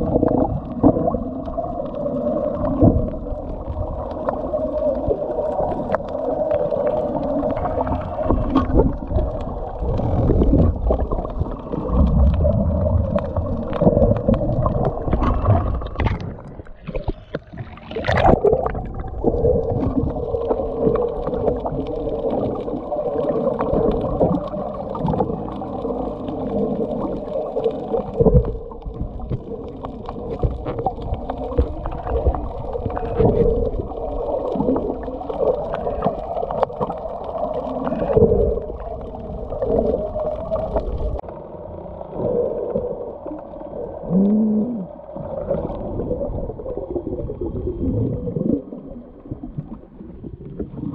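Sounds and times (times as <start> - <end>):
water gurgling underwater: 0.0 - 50.9.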